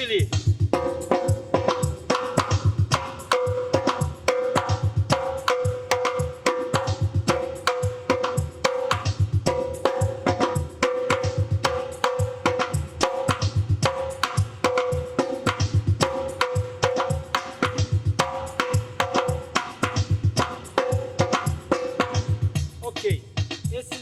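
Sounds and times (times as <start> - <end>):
conga drum groove: 0.0 - 24.0.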